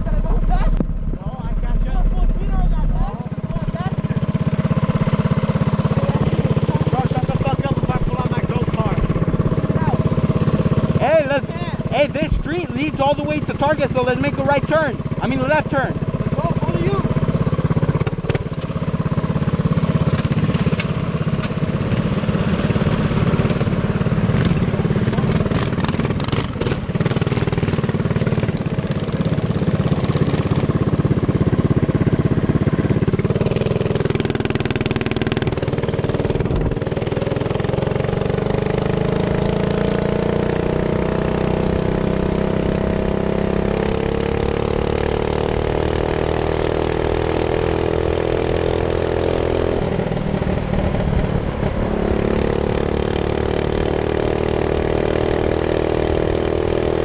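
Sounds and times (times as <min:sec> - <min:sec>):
minibike engine running: 0:00.0 - 0:57.0.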